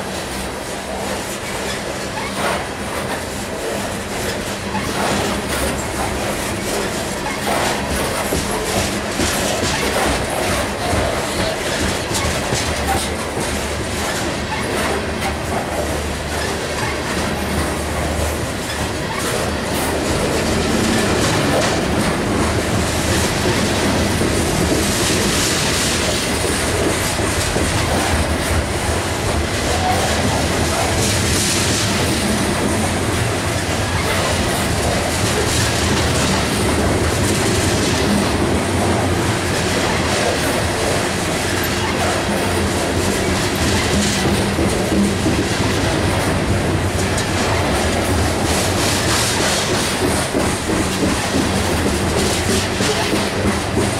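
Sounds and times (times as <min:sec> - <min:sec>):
clickety-clack over rail joints: 0:00.0 - 0:53.9
train wheels rumbling on rails: 0:00.0 - 0:53.9.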